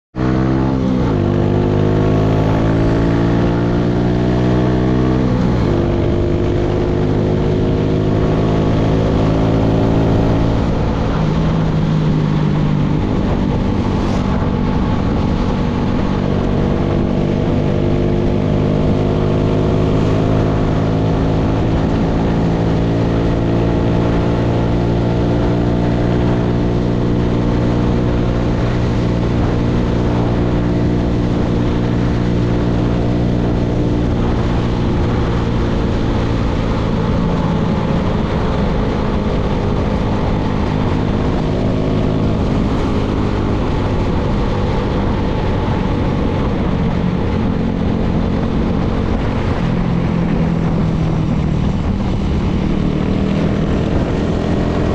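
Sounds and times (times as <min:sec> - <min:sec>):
wind and road noise: 0:00.0 - 0:54.9
motorcycle engine accelerating: 0:00.1 - 0:54.9.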